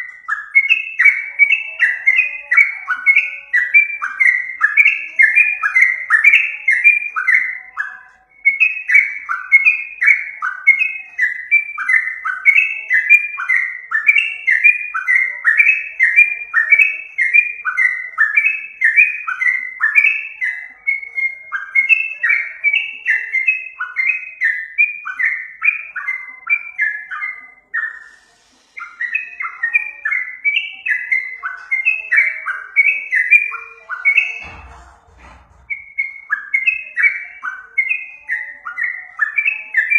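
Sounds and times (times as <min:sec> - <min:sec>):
bird singing fast chirps: 0:00.0 - 0:39.9.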